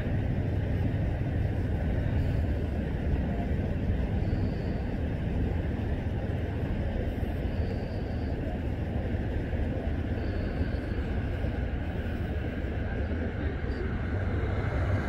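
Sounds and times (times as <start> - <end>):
vehicle engines idling: 0.0 - 15.0.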